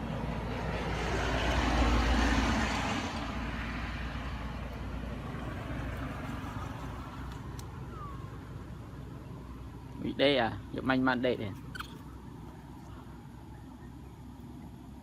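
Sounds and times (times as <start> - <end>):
low outdoor rumble: 0.0 - 15.0
motor vehicle passing: 0.0 - 15.0.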